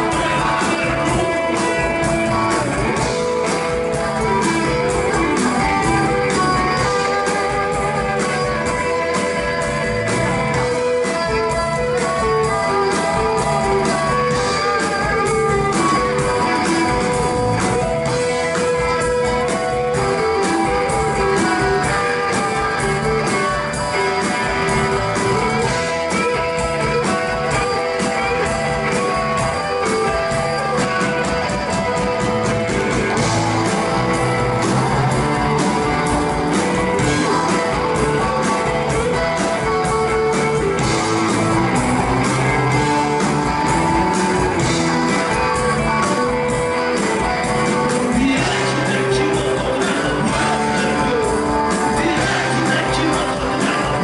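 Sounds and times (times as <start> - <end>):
electric guitars: 0.0 - 54.0
steady drum beat: 0.0 - 54.0.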